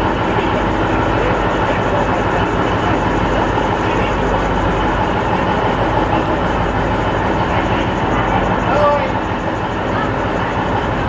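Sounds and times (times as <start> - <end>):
diesel train engine running: 0.0 - 11.0
rail noise: 0.0 - 11.0.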